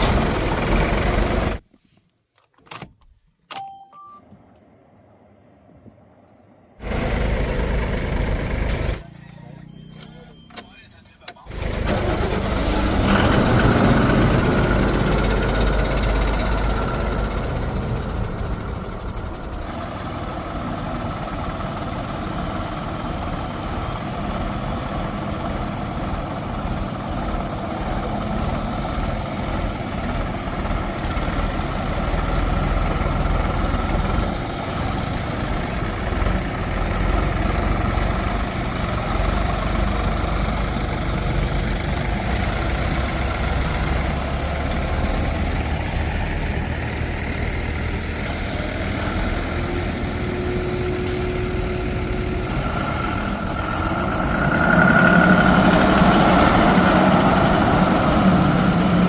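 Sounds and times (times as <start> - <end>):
heavy diesel engine running: 0.0 - 1.6, 6.8 - 59.0.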